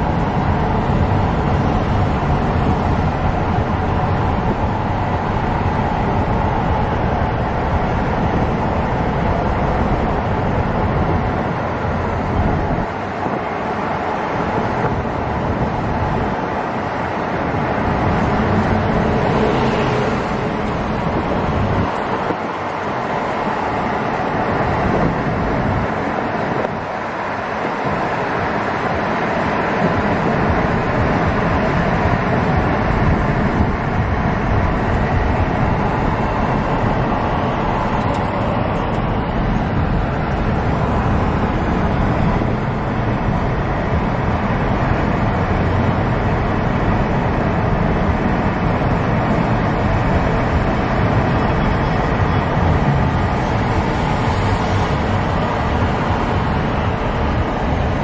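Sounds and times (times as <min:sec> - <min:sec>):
car road noise at speed: 0:00.0 - 0:58.0
surrounding traffic: 0:00.0 - 0:58.0.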